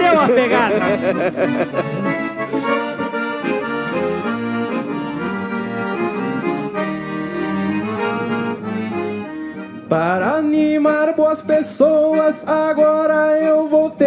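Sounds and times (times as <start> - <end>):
accordion playing: 0.0 - 14.0.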